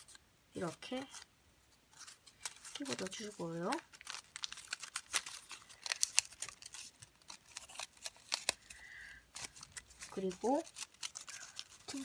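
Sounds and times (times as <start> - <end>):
paper crackling and rustling: 1.9 - 12.0.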